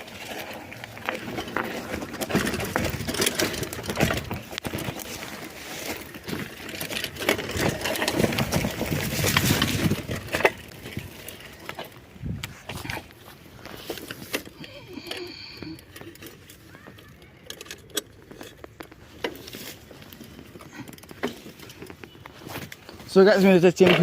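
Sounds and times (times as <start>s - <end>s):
bike clattering over bumps: 0.0s - 24.0s
bike tyres crunching on dirt: 0.0s - 24.0s.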